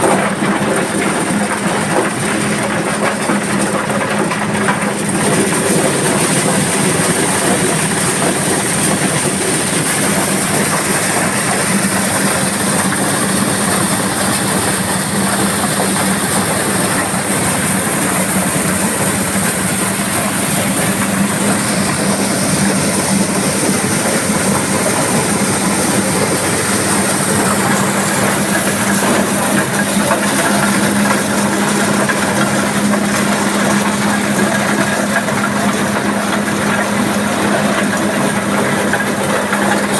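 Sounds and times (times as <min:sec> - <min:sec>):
corn sheller mechanical din: 0:00.0 - 0:39.9
diesel engine hum: 0:00.0 - 0:39.9.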